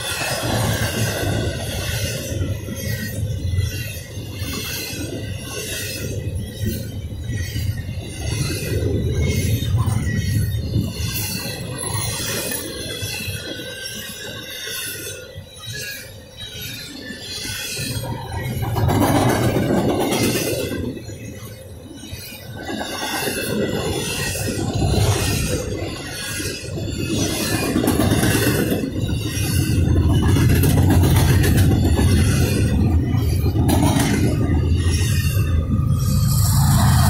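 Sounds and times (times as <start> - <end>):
low diesel locomotive drone: 0.0 - 37.0
train wheels rumbling on rails: 0.0 - 37.0
wheels clicking over rail joints: 0.0 - 37.0.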